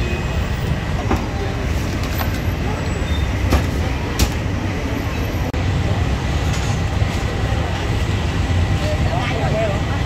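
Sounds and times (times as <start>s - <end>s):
low rumbling street background: 0.0s - 10.0s.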